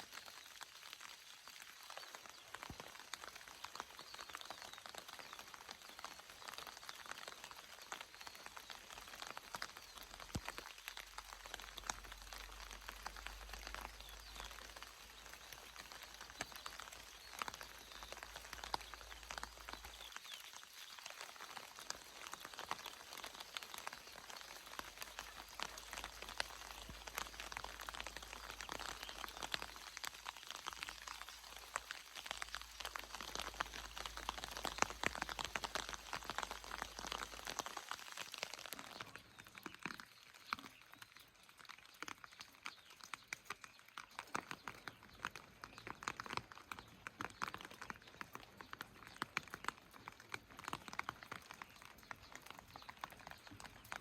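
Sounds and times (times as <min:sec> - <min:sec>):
rain falling: 0:00.0 - 0:54.0
raindrops ticking on surfaces: 0:00.0 - 0:54.0.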